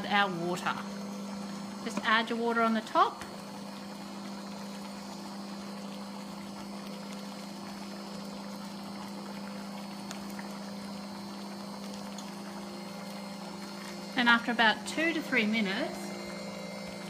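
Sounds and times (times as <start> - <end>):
pasta maker motor humming: 0.0 - 17.0
water pouring: 0.0 - 17.0.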